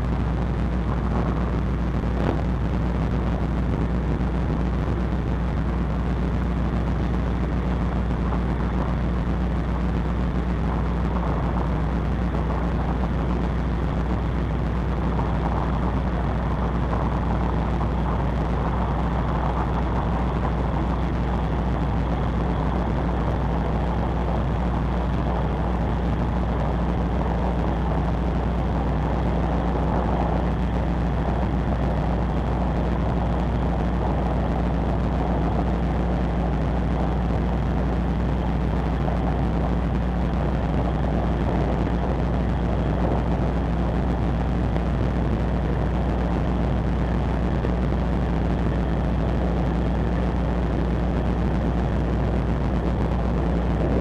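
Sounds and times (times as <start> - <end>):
rushing noise: 0.0 - 54.0.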